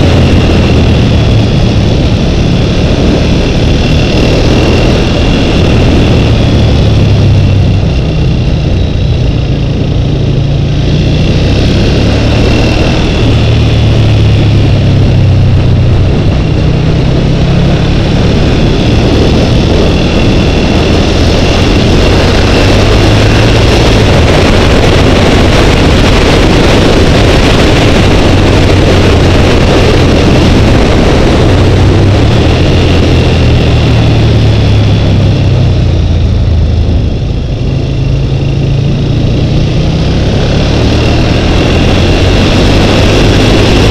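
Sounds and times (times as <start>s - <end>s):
motorcycle engine running: 0.0s - 43.9s
wind rush over microphone: 0.0s - 43.9s.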